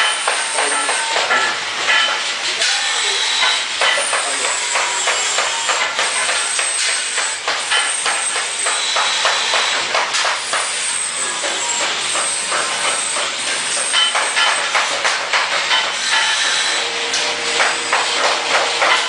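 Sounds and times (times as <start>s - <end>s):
welding arc crackling and hissing: 0.0s - 19.0s.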